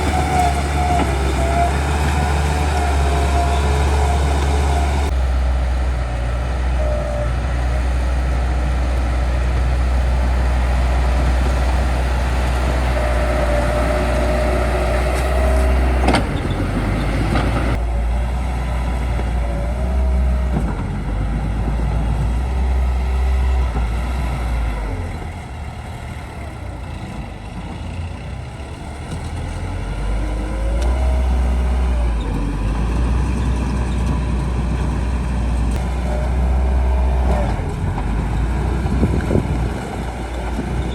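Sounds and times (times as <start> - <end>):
bulldozer diesel engine under load: 0.0 - 40.9.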